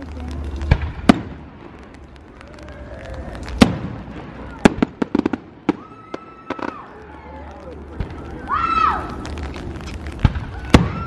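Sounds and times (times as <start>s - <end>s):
crackling firework pops: 0.0s - 11.0s.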